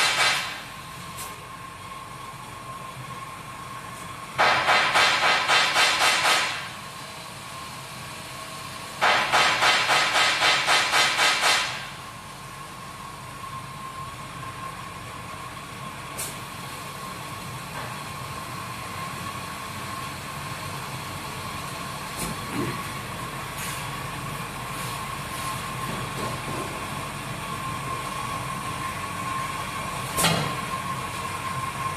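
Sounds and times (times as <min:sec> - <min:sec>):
steady high hum: 0:00.0 - 0:31.9.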